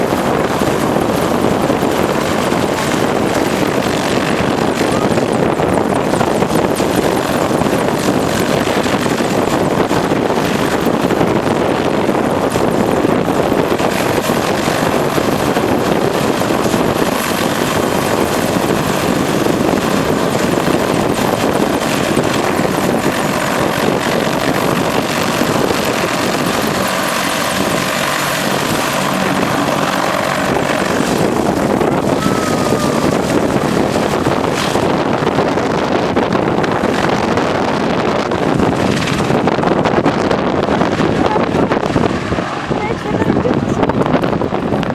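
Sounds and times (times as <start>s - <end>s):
helicopter rotor and engines: 0.0s - 44.9s.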